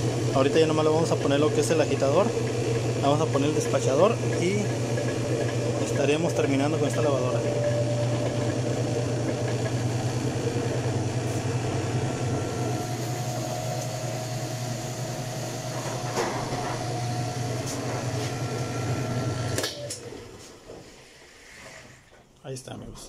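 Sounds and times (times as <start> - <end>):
washing machine spinning hum: 0.0 - 21.7.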